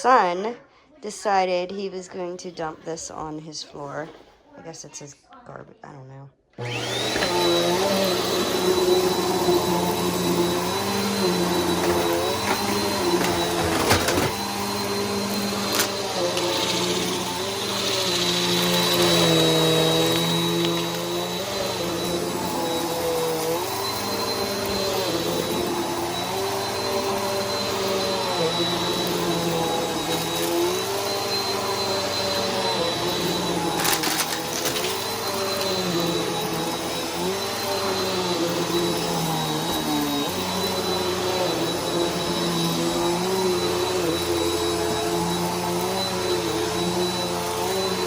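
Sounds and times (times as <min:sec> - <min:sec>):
upright vacuum cleaner whining: 0:06.6 - 0:48.0.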